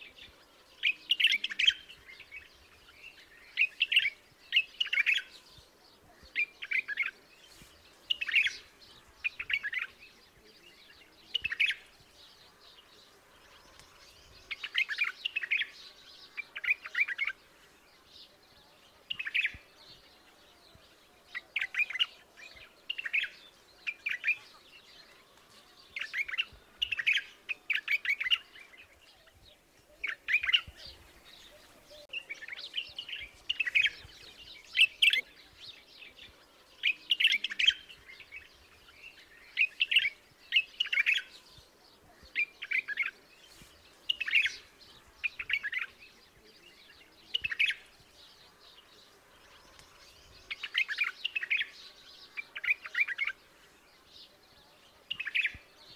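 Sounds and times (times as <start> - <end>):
bird singing warbling phrases: 0.0 - 55.9.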